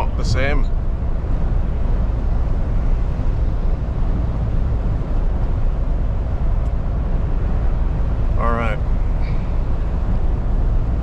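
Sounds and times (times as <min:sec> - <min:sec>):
lorry engine rumble: 0:00.0 - 0:11.0
wind: 0:00.0 - 0:11.0.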